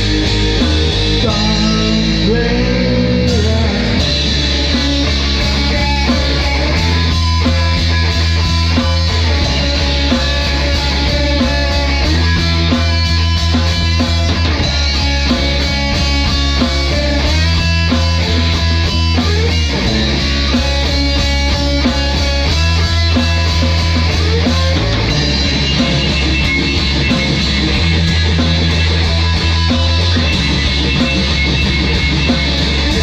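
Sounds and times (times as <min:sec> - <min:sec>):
heavy rock music: 0:00.0 - 0:33.0
low bass notes: 0:00.0 - 0:33.0.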